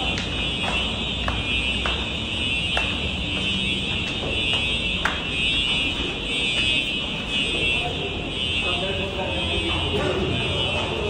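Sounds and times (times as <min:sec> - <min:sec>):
footsteps on concrete stairs: 0:00.0 - 0:07.6, 0:08.7 - 0:11.0
fire alarm ringing: 0:00.0 - 0:11.0.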